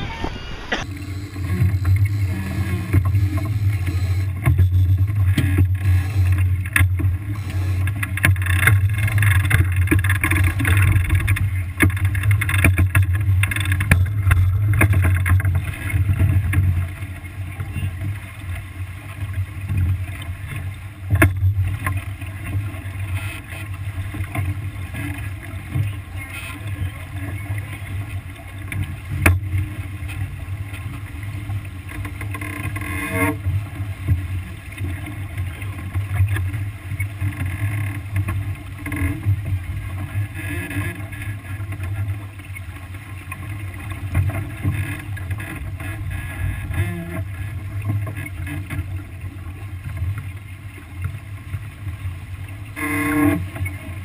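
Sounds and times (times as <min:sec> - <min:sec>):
water rushing along hull: 0:00.0 - 0:54.0.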